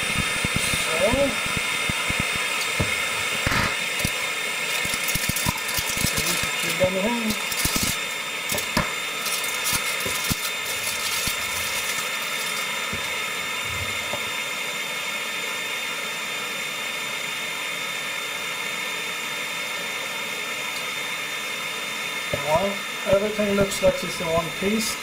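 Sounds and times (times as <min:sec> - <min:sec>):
hot air blower hiss and whine: 0:00.0 - 0:25.0.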